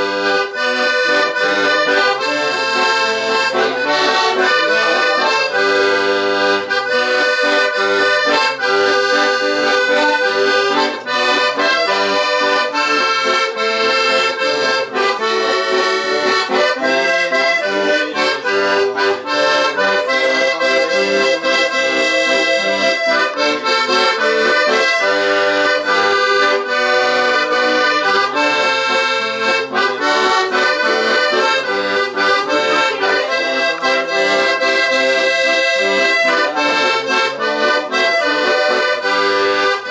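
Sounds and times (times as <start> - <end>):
accordion playing a tune: 0.0 - 39.9.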